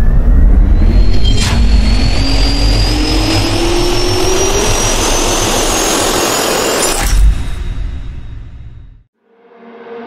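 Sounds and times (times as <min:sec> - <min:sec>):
jet turbine whine: 0:00.0 - 0:08.6.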